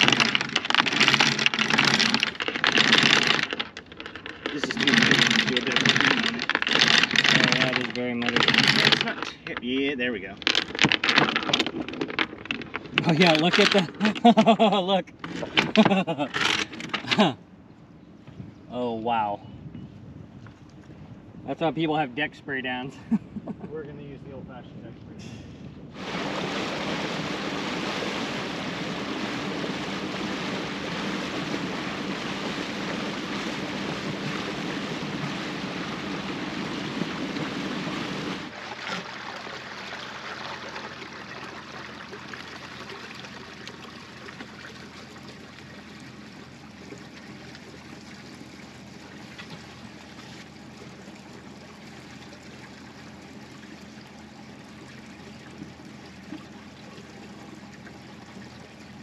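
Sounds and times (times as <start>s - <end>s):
water rushing along hull: 0.0s - 19.3s, 25.2s - 59.0s.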